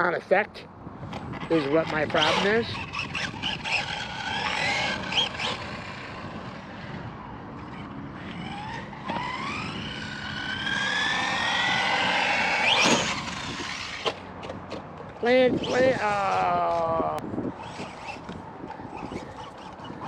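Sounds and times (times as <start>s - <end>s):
tyres rattling on dirt: 1.1s - 6.7s, 7.7s - 20.0s
electric motor whining: 1.1s - 20.0s.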